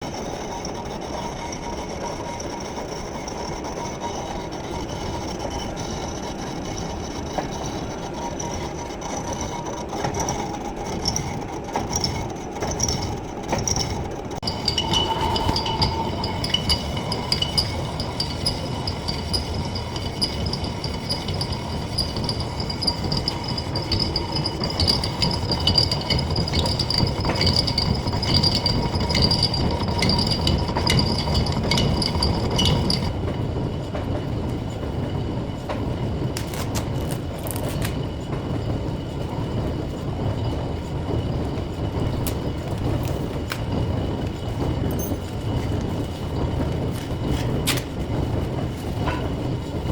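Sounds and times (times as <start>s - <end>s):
lathe running: 0.0s - 49.9s.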